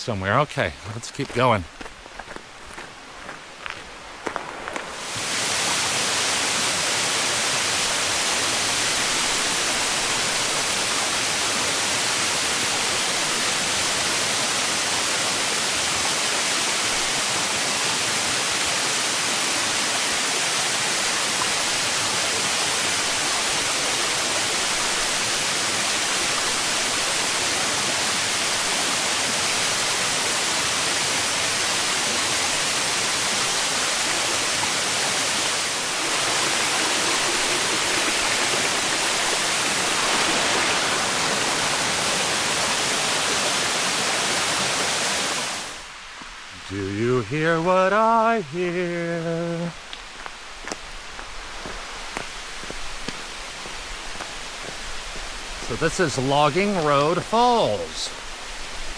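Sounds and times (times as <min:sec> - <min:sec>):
waterfall rushing: 0:04.4 - 0:58.9.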